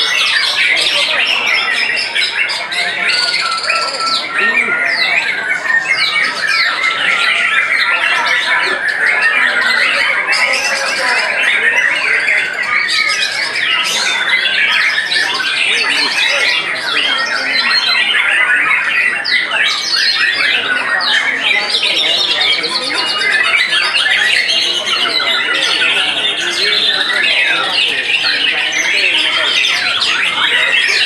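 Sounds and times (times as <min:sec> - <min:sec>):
chorus of songbirds singing: 0:00.0 - 0:31.0.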